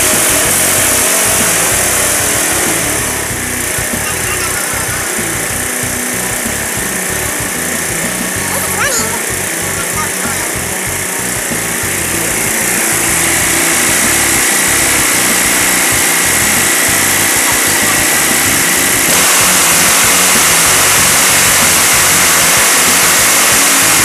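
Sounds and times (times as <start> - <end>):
riding lawn mower engine: 0.0 - 24.0.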